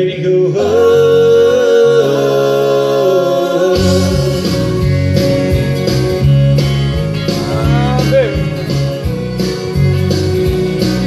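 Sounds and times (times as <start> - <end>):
country backing track with guitar: 0.0 - 11.0.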